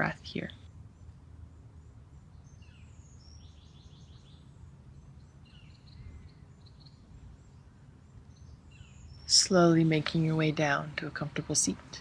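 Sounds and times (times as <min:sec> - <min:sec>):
faint low rumble: 0:00.0 - 0:12.0
small birds chirping: 0:00.0 - 0:12.0.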